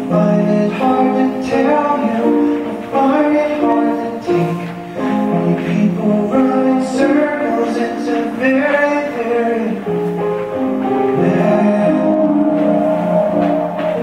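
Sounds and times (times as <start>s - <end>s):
song with singing voice: 0.0s - 14.0s.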